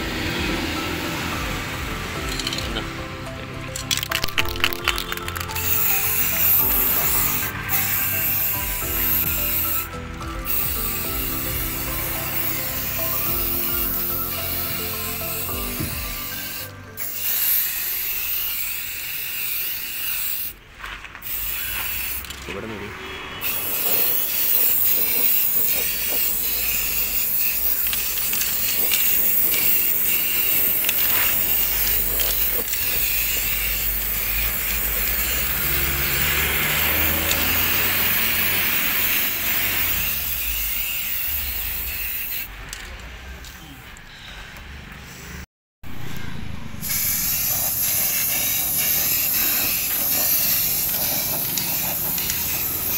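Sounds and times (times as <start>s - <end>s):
spray paint can hissing: 2.3s - 2.9s, 3.7s - 20.6s, 21.2s - 22.5s, 23.4s - 42.5s, 46.8s - 52.9s.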